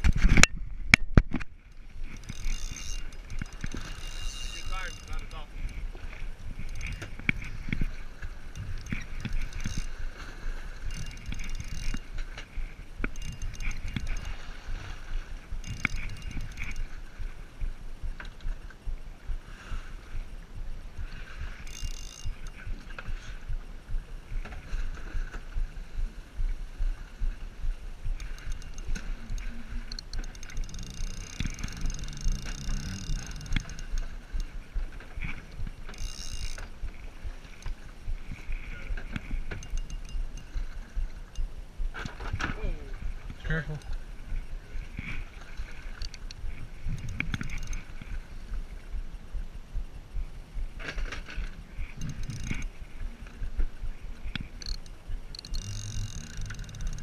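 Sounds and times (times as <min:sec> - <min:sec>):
wind buffeting microphone: 0:00.0 - 0:57.0
fishing reel whirring and clicking: 0:01.6 - 0:19.0, 0:21.0 - 0:23.6, 0:28.0 - 0:48.9, 0:50.8 - 0:57.0.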